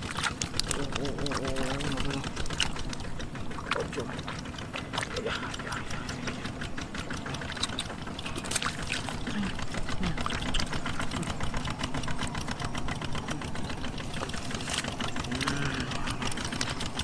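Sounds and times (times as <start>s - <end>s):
water pouring and splashing: 0.0s - 6.4s, 7.0s - 11.2s, 13.8s - 17.0s
small engine ticking: 0.0s - 17.0s.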